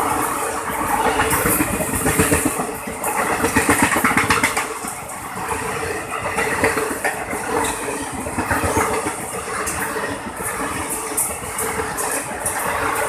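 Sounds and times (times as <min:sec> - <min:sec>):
train knocks and clatter: 0:00.0 - 0:13.0
train mechanical hum: 0:00.0 - 0:13.0.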